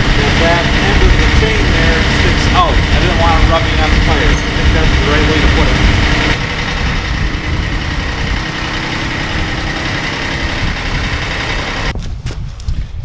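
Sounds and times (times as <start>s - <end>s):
tractor diesel engine idling: 0.0s - 11.9s.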